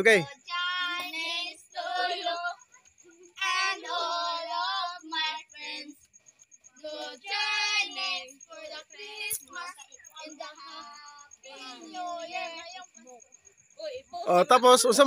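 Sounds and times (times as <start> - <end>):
girls singing a carol: 0.0 - 15.0.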